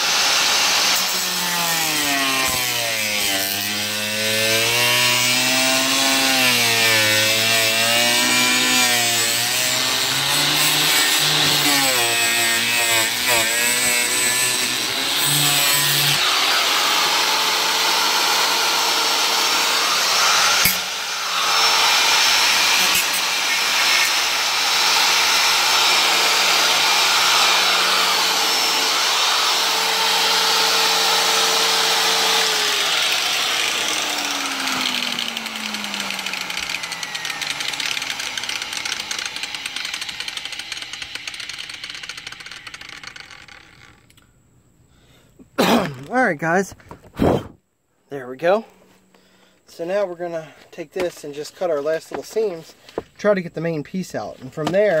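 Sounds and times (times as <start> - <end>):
power saw cutting: 0.0 - 44.0.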